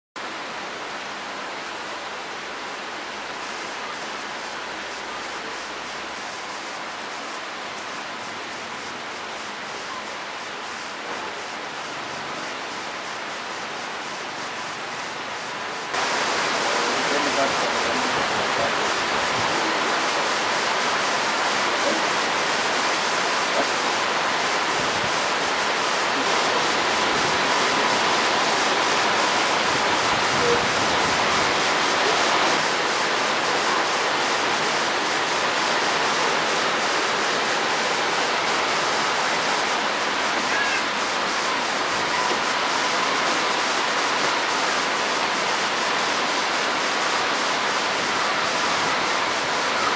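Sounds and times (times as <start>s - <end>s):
heavy rain pouring: 0.2s - 49.9s.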